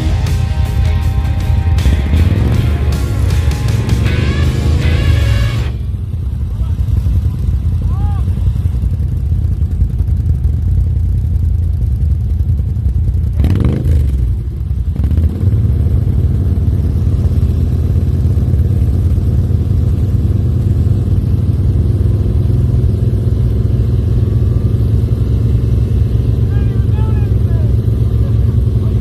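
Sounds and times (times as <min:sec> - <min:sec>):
atv engines rumbling: 0:00.0 - 0:29.0.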